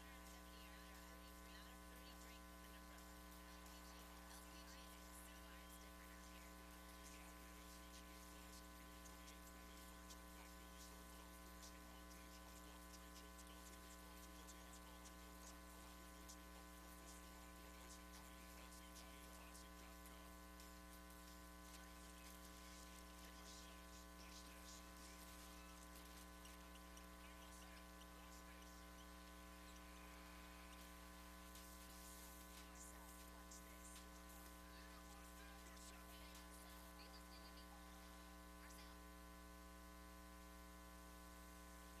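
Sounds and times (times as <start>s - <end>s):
faint electrical mains hum: 0.0s - 42.0s.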